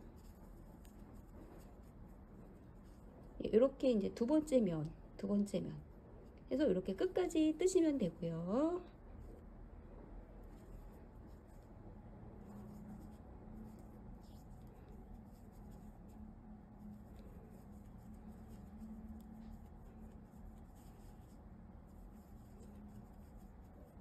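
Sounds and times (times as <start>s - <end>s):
crochet hook scratching yarn: 0.0s - 24.0s
low steady hum: 0.0s - 24.0s.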